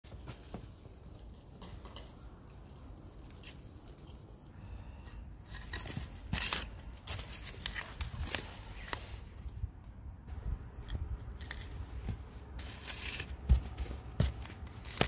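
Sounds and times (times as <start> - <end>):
garden fork in snow: 0.1 - 9.7, 10.3 - 15.0.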